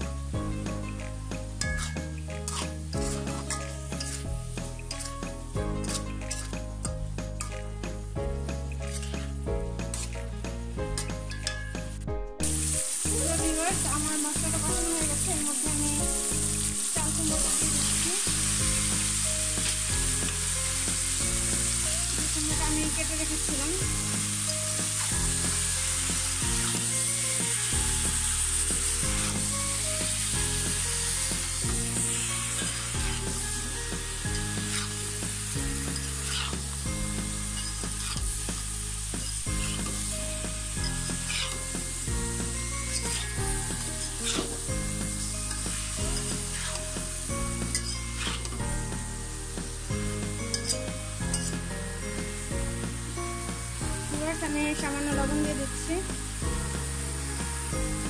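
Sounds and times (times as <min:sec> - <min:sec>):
food sizzling in oil: 0:00.0 - 0:58.0
soft background music: 0:00.0 - 0:58.0.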